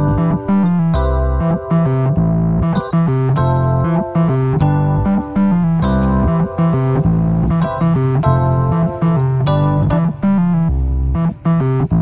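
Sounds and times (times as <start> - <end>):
keyboard melody with beat: 0.0 - 12.0.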